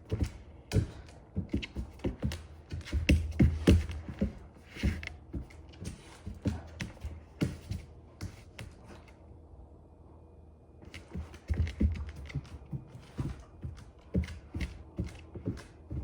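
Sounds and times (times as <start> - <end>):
dog claws clicking on hard floor: 0.0 - 9.2, 10.9 - 16.0.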